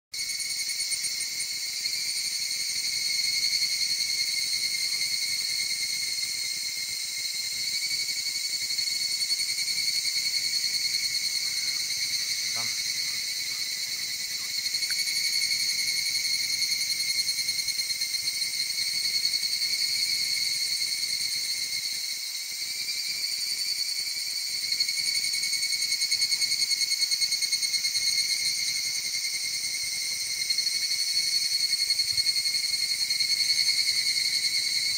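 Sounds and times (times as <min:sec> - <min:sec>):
insects shrilling: 0:00.2 - 0:34.9.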